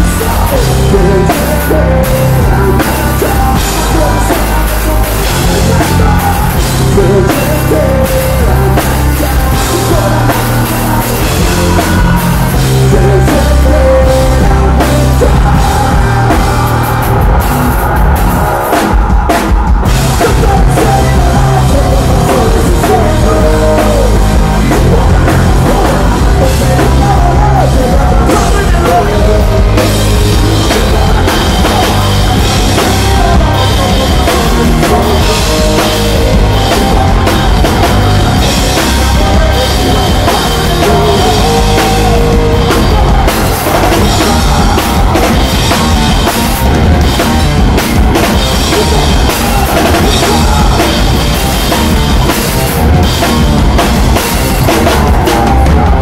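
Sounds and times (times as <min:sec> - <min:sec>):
drum kit beat: 0:00.0 - 0:56.0
rock band playing live: 0:00.0 - 0:56.0.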